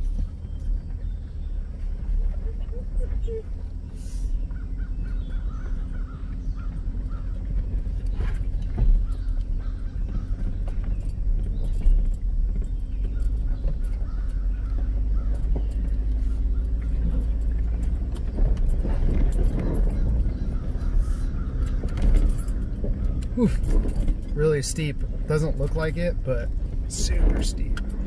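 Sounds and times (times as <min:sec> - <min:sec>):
engine and tyres rumbling: 0:00.0 - 0:28.0
faint squeaks: 0:00.6 - 0:26.2.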